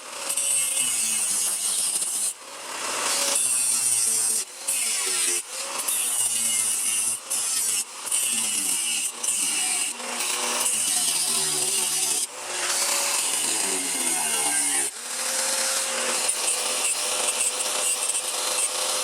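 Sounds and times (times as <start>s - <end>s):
power tool grinding steel: 0.0s - 19.0s.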